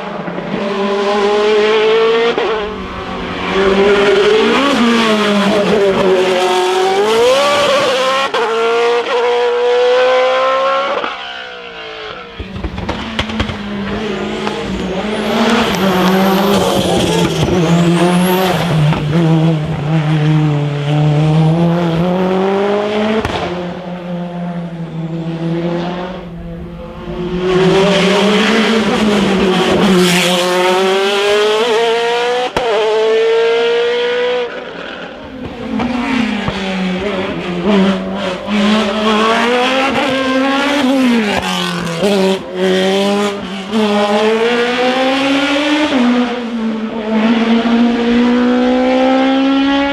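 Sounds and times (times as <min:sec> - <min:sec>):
race car engines accelerating: 0:00.0 - 0:49.9.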